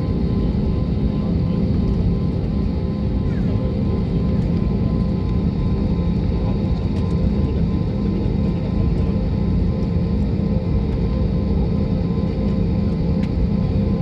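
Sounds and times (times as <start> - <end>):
jet engine drone in cabin: 0.0 - 14.0.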